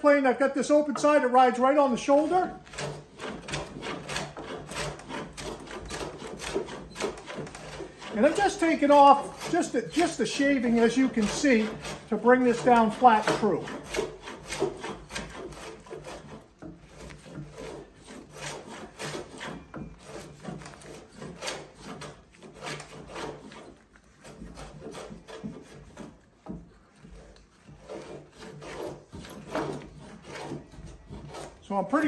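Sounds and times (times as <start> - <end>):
hand plane shaving wood: 0.6 - 32.0.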